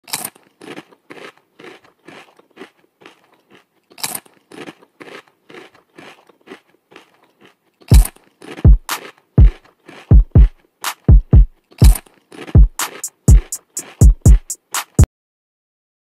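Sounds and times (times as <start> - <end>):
grasshopper chewing leaf crunches: 0.1 - 14.0.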